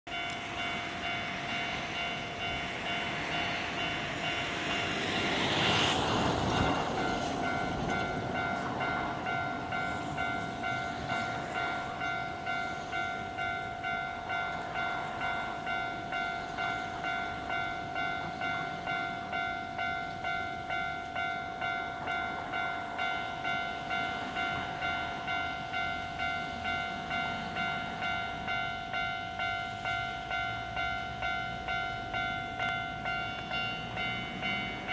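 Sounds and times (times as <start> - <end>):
railroad crossing alarm bell ringing: 0.1 - 34.9
train passing: 0.1 - 34.9.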